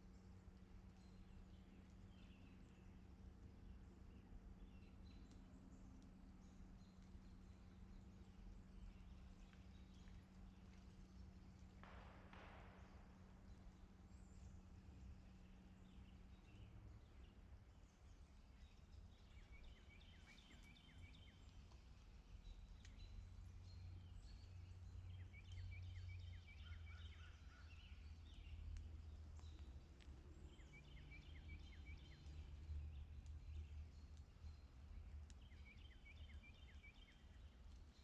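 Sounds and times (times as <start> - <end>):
faint bird song: 0.0 - 38.0
low steady rumble: 0.0 - 38.0.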